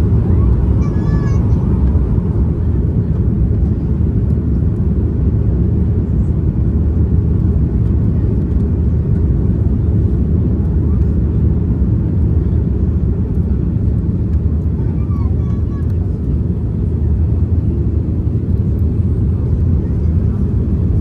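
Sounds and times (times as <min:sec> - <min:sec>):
airliner cabin noise in flight: 0:00.0 - 0:21.0.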